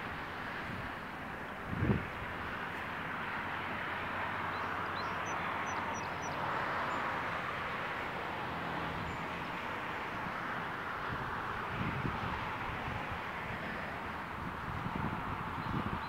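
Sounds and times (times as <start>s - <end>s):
highway traffic: 0.0s - 16.0s.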